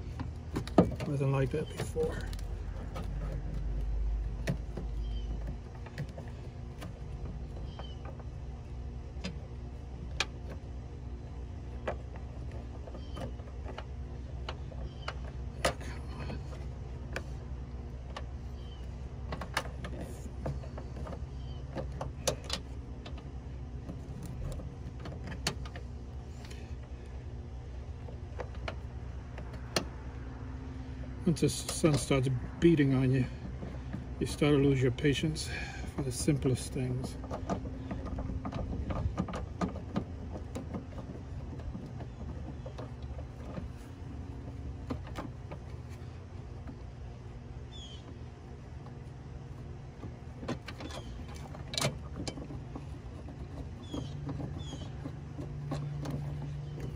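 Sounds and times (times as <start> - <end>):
low hum: 0.0 - 56.9.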